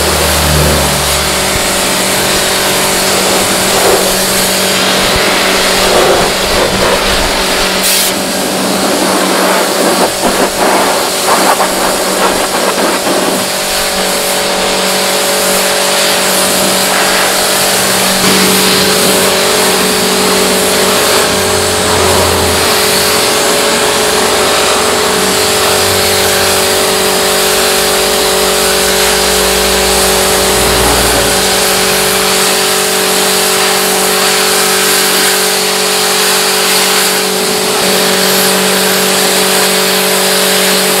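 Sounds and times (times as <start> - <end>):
pressure washer motor hum: 0.0 - 41.0
water jet hissing: 0.0 - 41.0.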